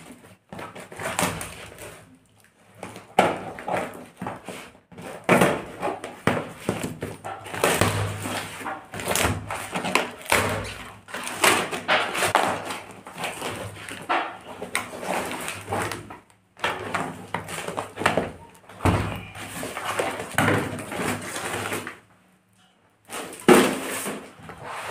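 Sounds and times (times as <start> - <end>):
cardboard and tape ripping: 0.1 - 2.1, 2.8 - 22.0, 23.1 - 24.9.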